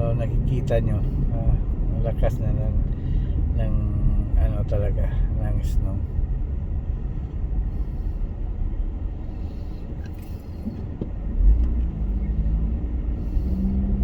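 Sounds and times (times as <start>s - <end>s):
low engine hum: 0.0s - 14.0s
road and engine rumble in car: 0.0s - 14.0s.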